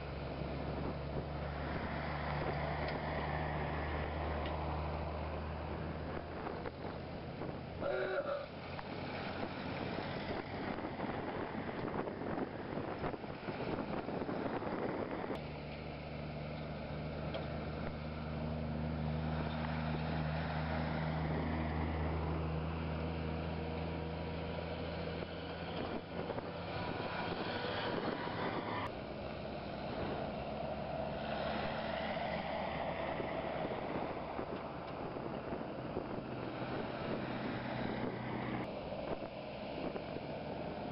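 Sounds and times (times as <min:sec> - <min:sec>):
wind on microphone: 0:00.0 - 0:15.4, 0:19.3 - 0:40.9
engines humming: 0:00.0 - 0:40.9
vehicles driving on gravel: 0:00.0 - 0:40.9.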